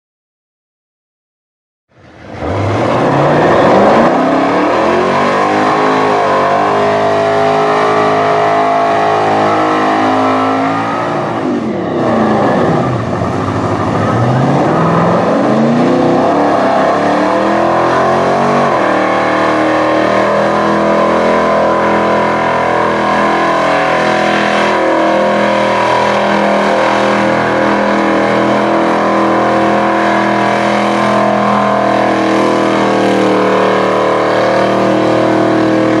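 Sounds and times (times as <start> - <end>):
truck engine revving high: 2.0 - 36.0.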